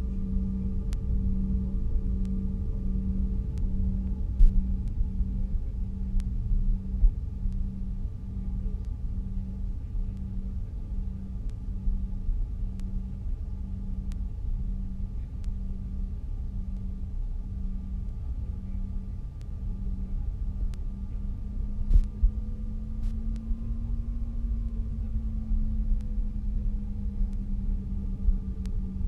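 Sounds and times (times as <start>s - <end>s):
jet cabin low rumble: 0.0s - 29.0s
pulsing low tone: 0.0s - 29.0s.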